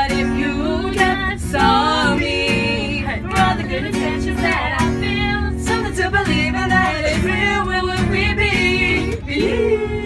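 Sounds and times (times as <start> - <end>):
group singing: 0.0 - 10.0
strummed guitar: 0.0 - 10.0.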